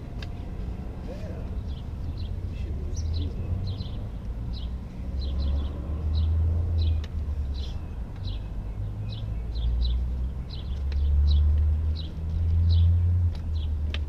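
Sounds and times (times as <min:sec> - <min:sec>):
bird chirping: 0:01.3 - 0:13.8.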